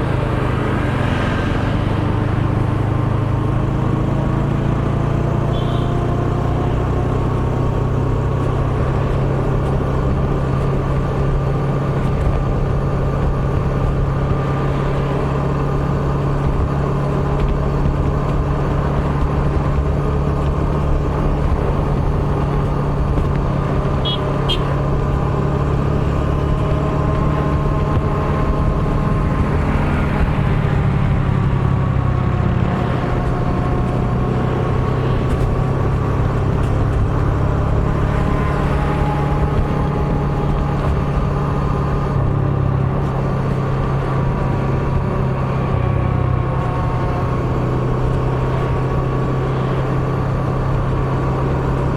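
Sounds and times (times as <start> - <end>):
road and wind noise: 0.0 - 51.9.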